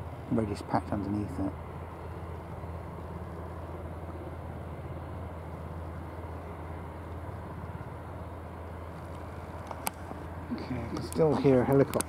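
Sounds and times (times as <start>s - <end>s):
helicopter engines droning: 0.0s - 12.0s.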